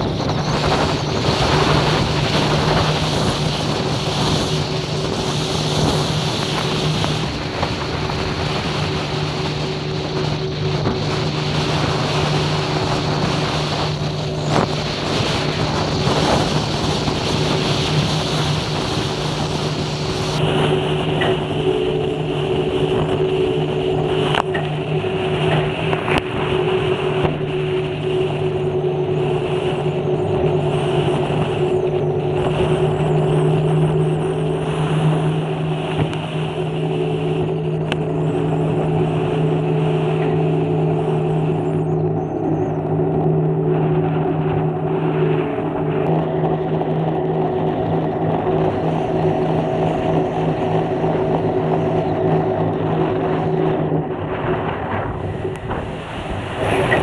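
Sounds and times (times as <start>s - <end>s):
hull knocking on waves: 0.0s - 42.2s, 42.8s - 57.0s
boat engine drone: 0.0s - 57.0s
rushing spray and wind: 0.0s - 57.0s.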